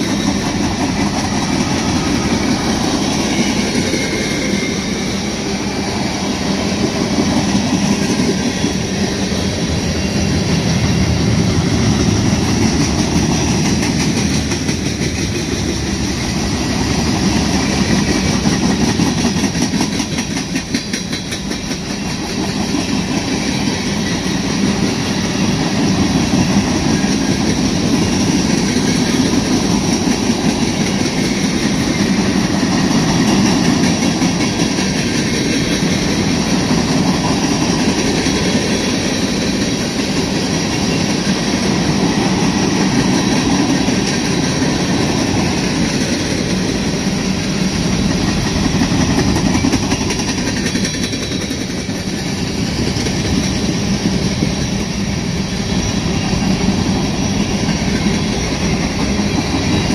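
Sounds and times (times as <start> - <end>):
steel wheels clattering on rails: 0.0 - 59.9.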